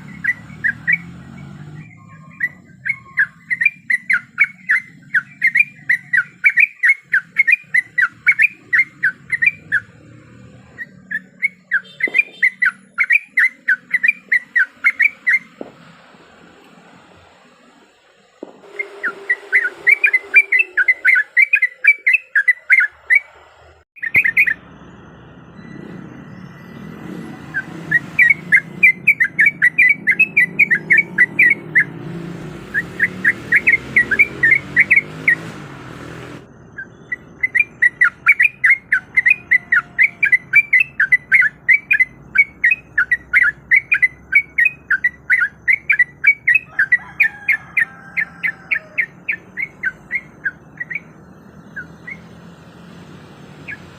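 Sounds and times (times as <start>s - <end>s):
bird singing chattering notes: 0.0s - 15.6s, 18.0s - 35.6s, 36.4s - 53.9s.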